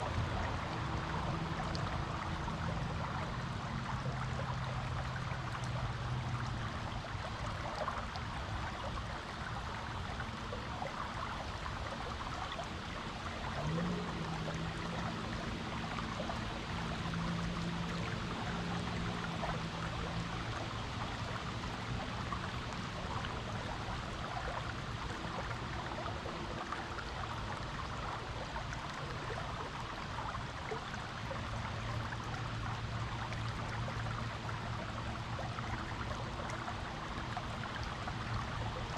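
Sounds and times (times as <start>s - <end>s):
faint low hum: 0.0s - 38.9s
stream water flowing: 0.0s - 38.9s.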